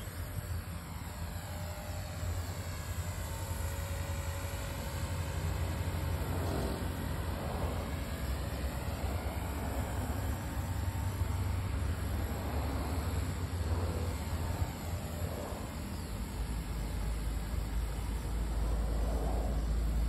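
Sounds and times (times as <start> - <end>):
rc helicopter motor whine: 0.0 - 20.0.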